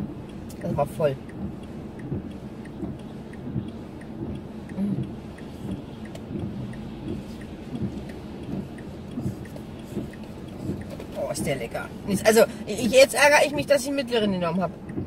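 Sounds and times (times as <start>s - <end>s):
car turn signal ticking: 0.0s - 15.0s
low rumble of car cabin: 0.0s - 15.0s.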